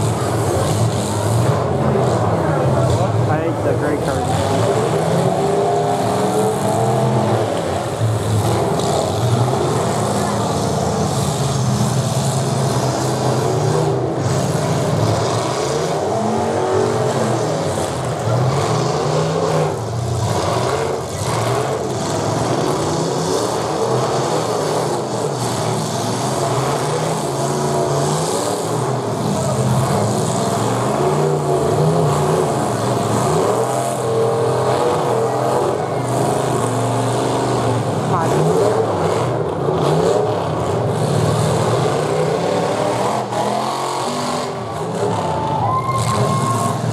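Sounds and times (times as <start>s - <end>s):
car engines revving loud: 0.0s - 46.9s.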